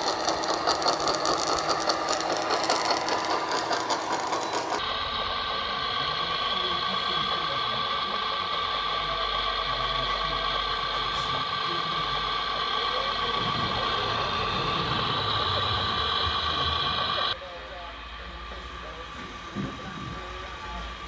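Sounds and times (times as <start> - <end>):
hydraulic pump whining: 0.0 - 17.4.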